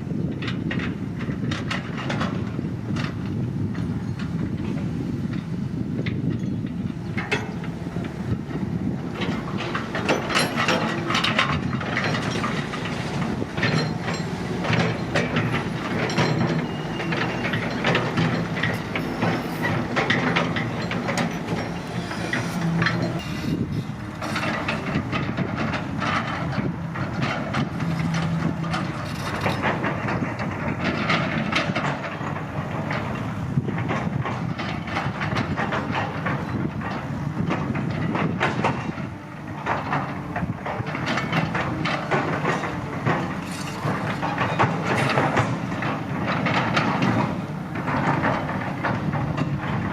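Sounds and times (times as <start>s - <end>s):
excavator diesel engine running: 0.1s - 49.9s
metallic clanks and knocks: 0.4s - 49.9s.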